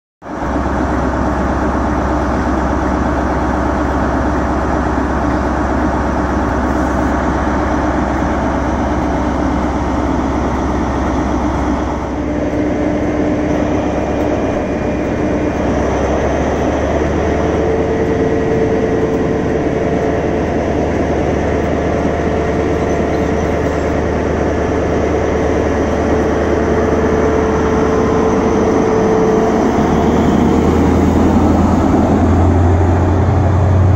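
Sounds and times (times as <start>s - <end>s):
rail and wheel noise: 0.2s - 33.9s
steady whine: 0.2s - 33.9s
train low drone: 0.2s - 33.9s.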